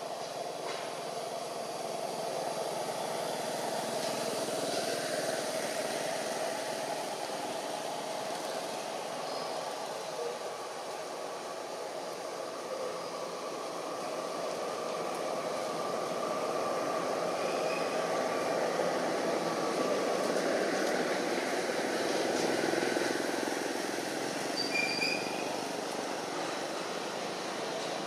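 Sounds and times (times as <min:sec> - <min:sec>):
rushing outdoor background noise: 0:00.0 - 0:28.0.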